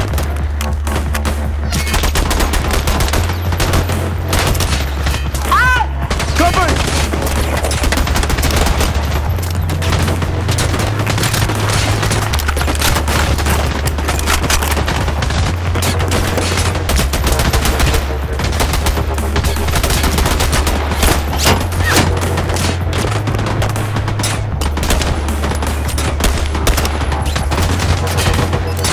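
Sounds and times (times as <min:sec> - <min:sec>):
dense overlapping gunfire: 0:00.0 - 0:28.9.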